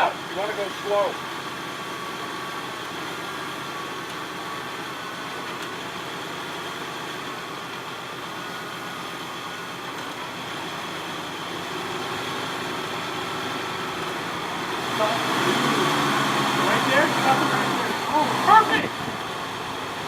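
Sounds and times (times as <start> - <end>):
jeep engine at low revs: 0.0 - 20.0.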